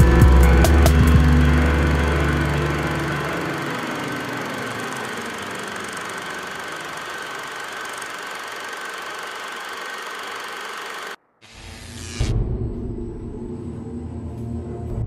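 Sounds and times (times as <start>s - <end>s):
noisy droning soundtrack: 0.0s - 15.0s.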